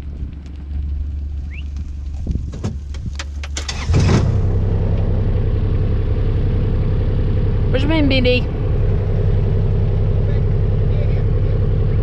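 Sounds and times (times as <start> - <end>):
farm vehicle engine running: 0.0 - 12.0.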